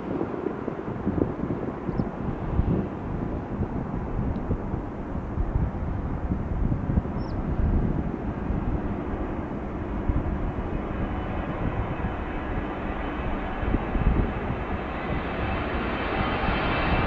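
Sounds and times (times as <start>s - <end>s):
jet engines rumbling at takeoff: 0.0s - 17.0s
thin jet engine whine: 0.0s - 17.0s.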